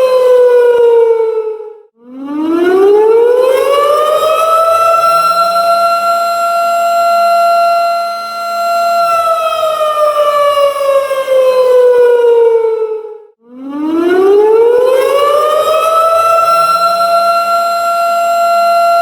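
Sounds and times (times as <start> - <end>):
tornado warning siren wailing: 0.0 - 19.0.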